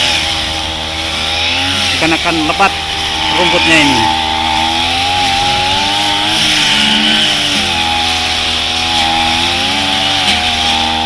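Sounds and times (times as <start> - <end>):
brush cutter cutting grass: 0.0 - 11.0.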